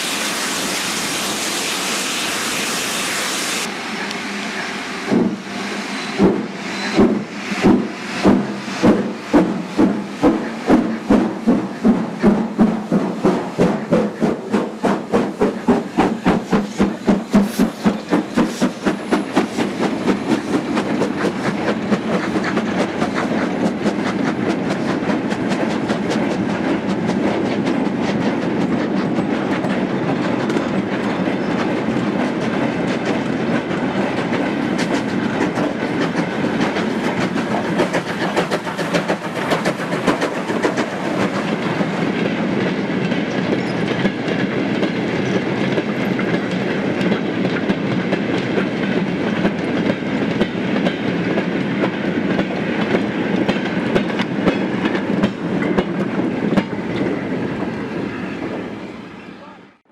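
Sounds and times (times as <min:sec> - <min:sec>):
freight train wheels clattering: 0:05.0 - 0:58.9.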